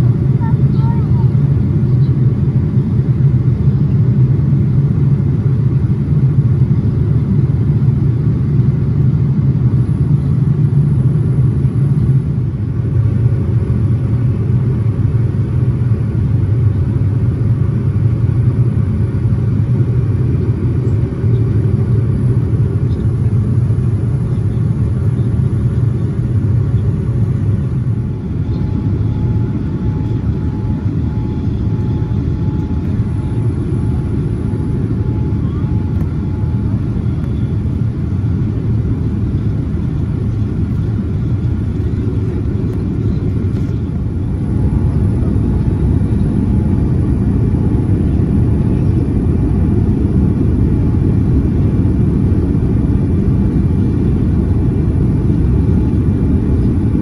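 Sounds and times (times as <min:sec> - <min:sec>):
airliner cabin rumble: 0:00.0 - 0:57.0
faint steady whine: 0:00.0 - 0:57.0.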